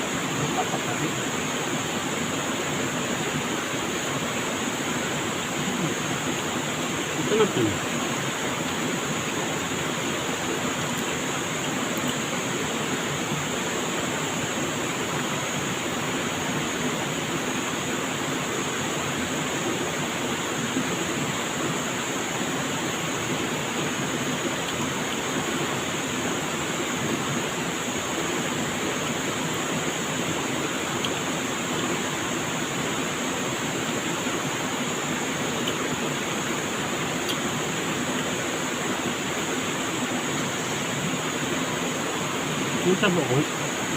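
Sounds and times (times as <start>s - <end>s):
steady high hiss: 0.0s - 43.9s
stream water rushing: 0.0s - 43.9s.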